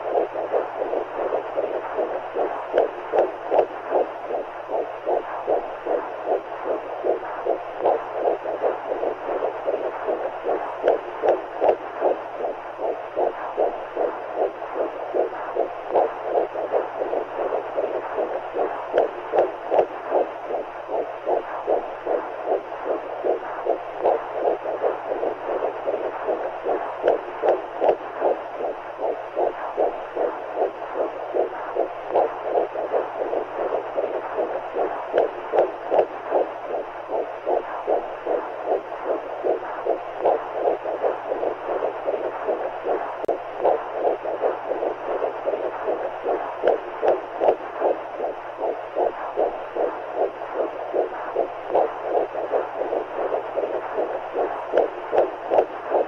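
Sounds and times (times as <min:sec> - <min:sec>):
heartbeats pulsing: 0:00.0 - 0:56.0.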